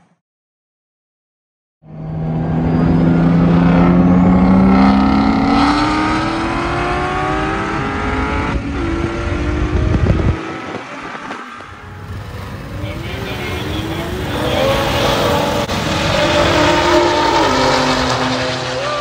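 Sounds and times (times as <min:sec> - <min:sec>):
race car accelerating past: 0:01.9 - 0:19.0.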